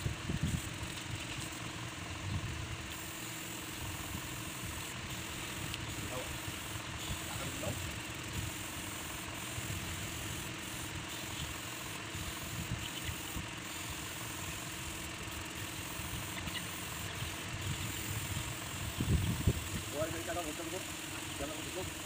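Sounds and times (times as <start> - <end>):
air compressor running: 0.0 - 22.0.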